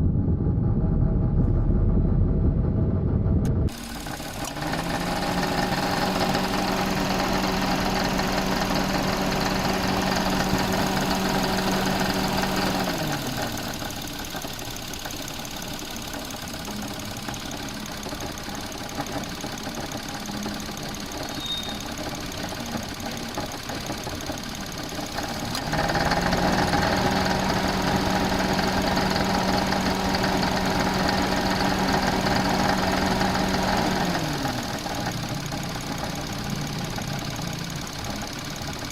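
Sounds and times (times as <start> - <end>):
alternator rattle: 0.0 - 38.9
car engine revving and idling: 0.0 - 38.9.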